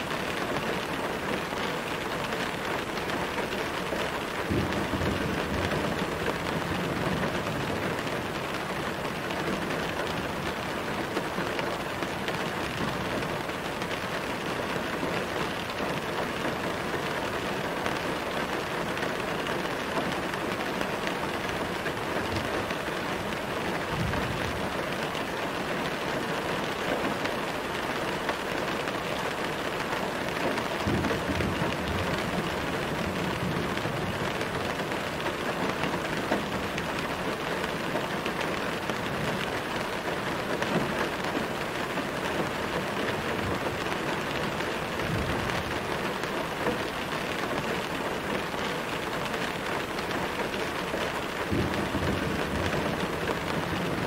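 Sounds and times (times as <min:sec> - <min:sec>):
rain on a car roof: 0:00.0 - 0:54.0.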